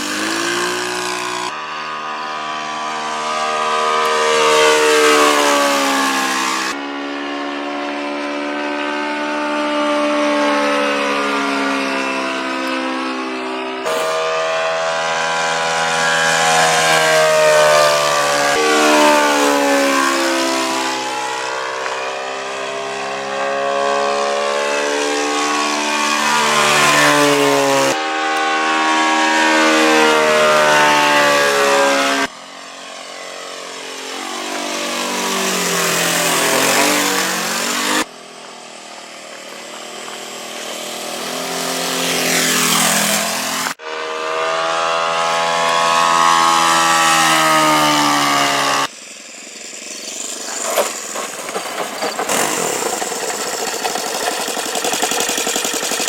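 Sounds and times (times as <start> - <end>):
model plane engine passing by: 0.0 - 56.0.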